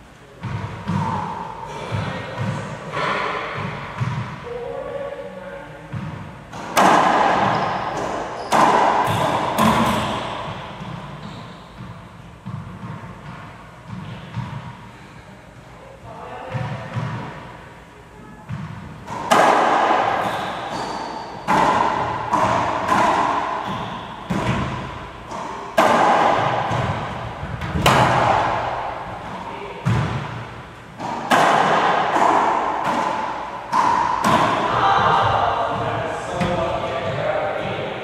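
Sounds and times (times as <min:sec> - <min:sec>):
racquetball ball hits echoing: 0:00.4 - 0:04.6, 0:05.9 - 0:14.9, 0:16.4 - 0:17.6, 0:18.4 - 0:38.0.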